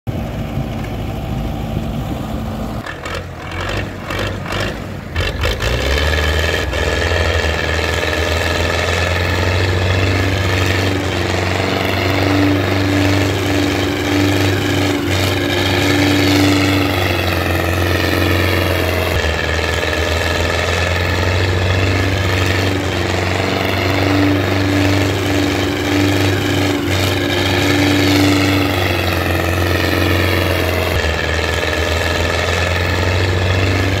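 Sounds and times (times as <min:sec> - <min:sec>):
tractor diesel engine under load: 0:00.1 - 0:34.0.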